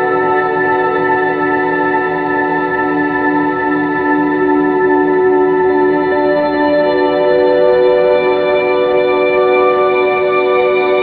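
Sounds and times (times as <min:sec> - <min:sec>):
ambient music with held notes: 0:00.0 - 0:11.0.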